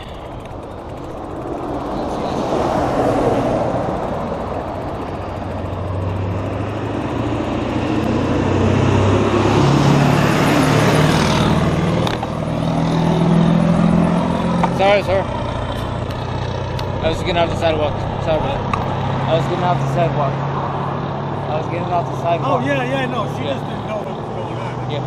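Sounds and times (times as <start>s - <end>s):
car engine running: 0.0s - 20.2s.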